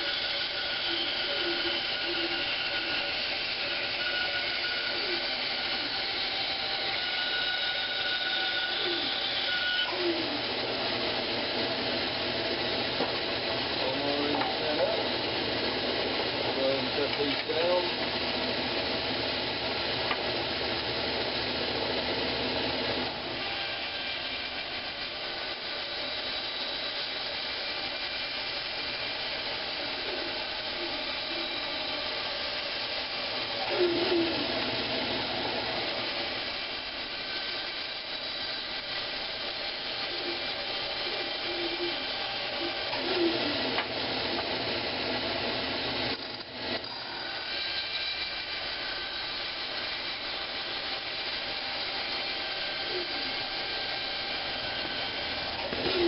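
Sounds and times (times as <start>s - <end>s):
power saw cutting wood: 0.0s - 56.0s.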